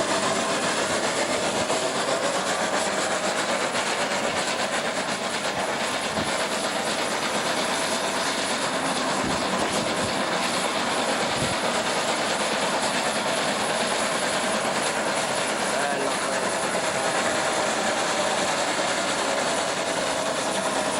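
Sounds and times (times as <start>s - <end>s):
train coaches rumbling: 0.0s - 20.9s.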